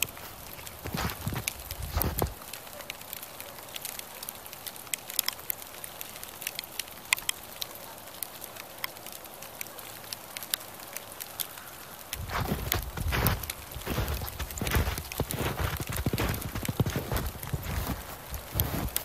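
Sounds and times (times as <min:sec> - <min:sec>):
faint steady hiss: 0:00.0 - 0:19.0
snow ticking on phone and clothing: 0:00.0 - 0:19.0.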